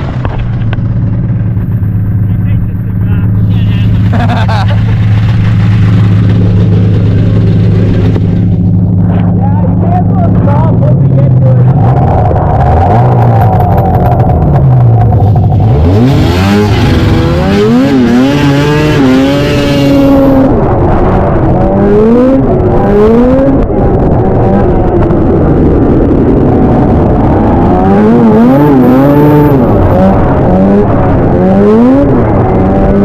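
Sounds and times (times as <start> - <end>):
two-stroke snowmobile engine revving: 0.0 - 24.9, 25.8 - 33.0.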